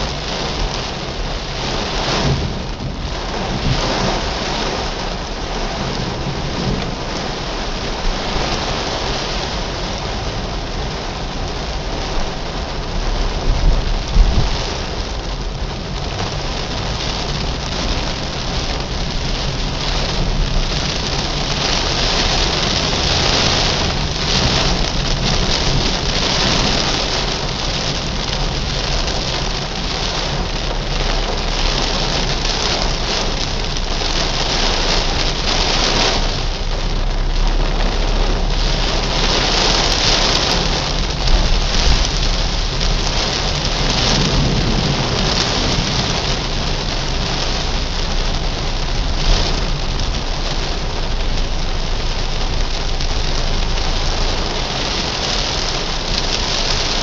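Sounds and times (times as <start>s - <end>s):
heavy rain on car roof: 0.0s - 57.0s
low rumble of moving car: 0.0s - 57.0s.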